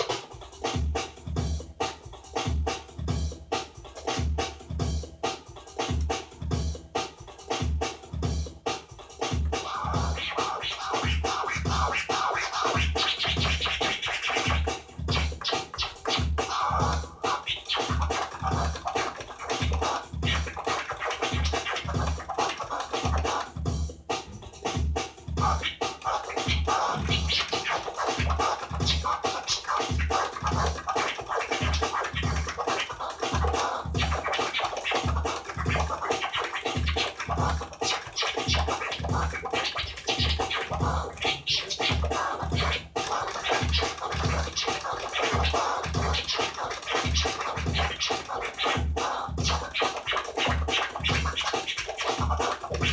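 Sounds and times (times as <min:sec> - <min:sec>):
electronic beat with kick drum: 0:00.0 - 0:52.9
turntable scratching: 0:00.0 - 0:52.9.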